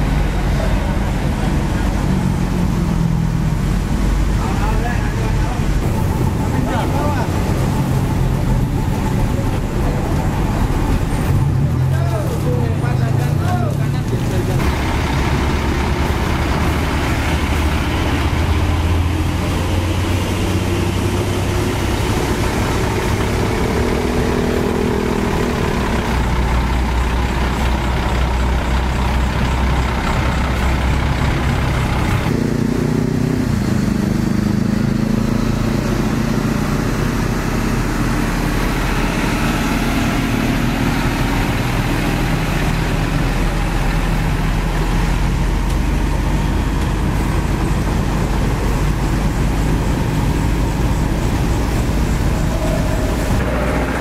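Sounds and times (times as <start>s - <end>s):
heavy diesel trucks driving past: 0.0s - 54.0s.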